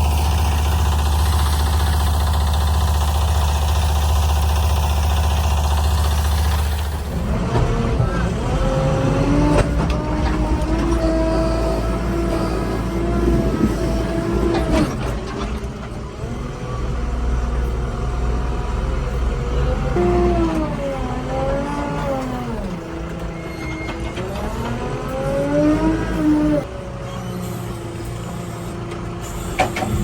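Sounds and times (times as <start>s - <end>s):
diesel engine running: 0.0s - 26.9s
engine whine: 0.0s - 27.0s.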